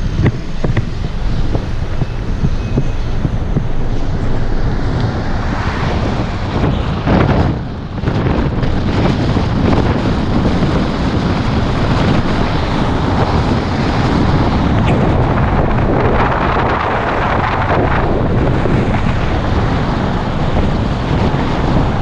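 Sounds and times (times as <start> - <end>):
car wind and road noise: 0.0 - 22.0.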